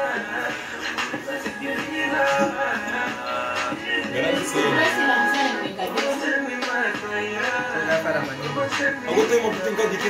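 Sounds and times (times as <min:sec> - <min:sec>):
music from a television speaker: 0:00.0 - 0:10.0.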